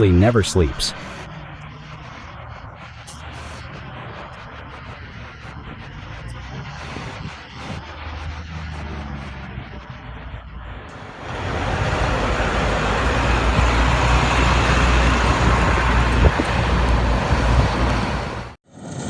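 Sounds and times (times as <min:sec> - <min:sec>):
loud steady rushing noise: 0:00.0 - 0:19.0
vehicle engine hum: 0:00.0 - 0:19.0.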